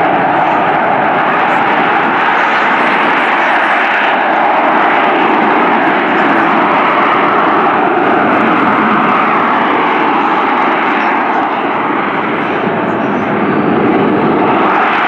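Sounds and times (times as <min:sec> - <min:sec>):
loud jet engine noise: 0:00.0 - 0:15.0.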